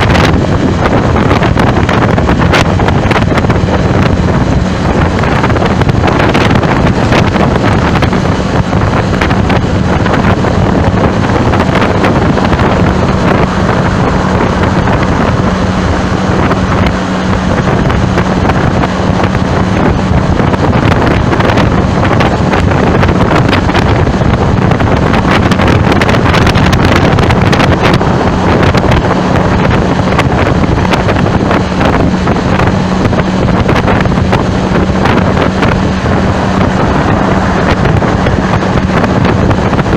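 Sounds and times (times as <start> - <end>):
low hum: 0.0 - 39.9
wind buffeting microphone: 0.0 - 39.9.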